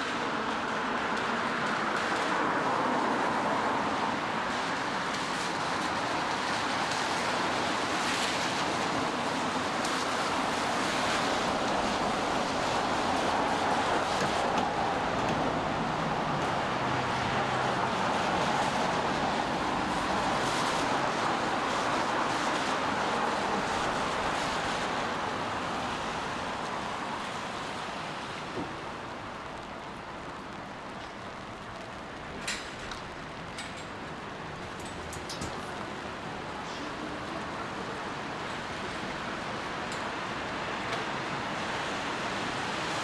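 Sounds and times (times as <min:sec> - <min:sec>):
car tyres hissing on wet road: 0:00.0 - 0:43.0
rain on a street: 0:00.0 - 0:43.0.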